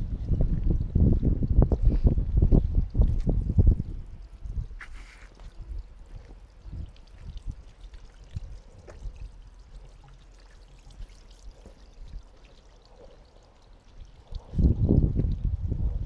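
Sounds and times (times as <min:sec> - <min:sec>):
water pouring and trickling: 0:00.0 - 0:16.0.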